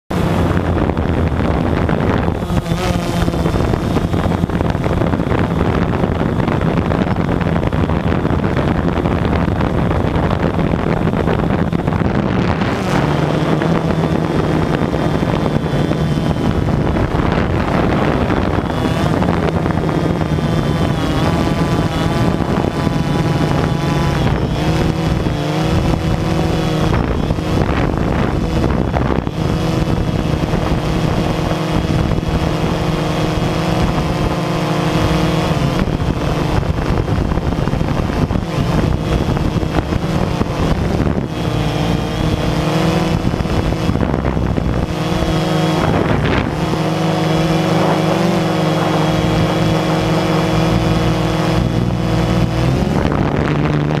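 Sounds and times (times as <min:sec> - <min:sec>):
drone propellers buzzing: 0:00.1 - 0:54.0.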